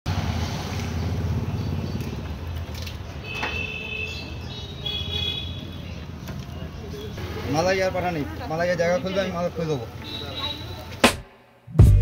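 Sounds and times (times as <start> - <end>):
street background rumble: 0.1 - 12.0.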